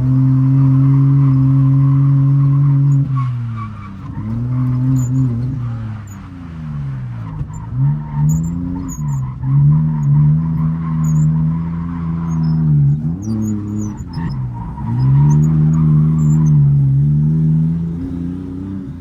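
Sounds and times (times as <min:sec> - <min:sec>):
car engine revving: 0:00.0 - 0:19.0
tyres skidding: 0:00.0 - 0:19.0.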